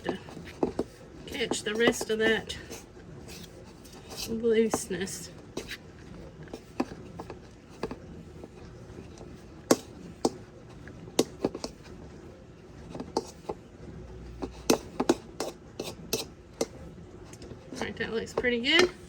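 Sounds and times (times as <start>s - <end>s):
dough mixing clicks and taps: 0.0s - 19.0s.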